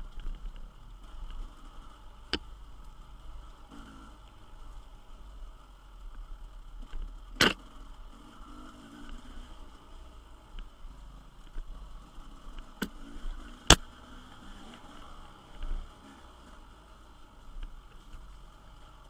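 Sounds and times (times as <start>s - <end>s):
faint motorcycle engine: 0.0s - 19.0s.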